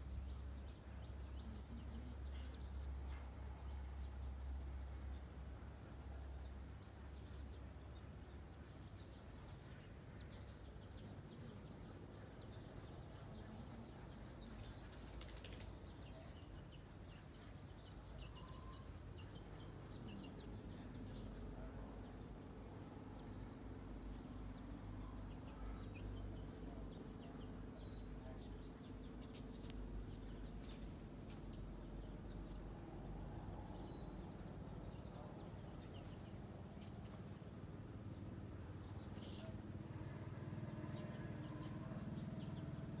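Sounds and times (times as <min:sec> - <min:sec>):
insect drone: 0:00.0 - 0:43.0.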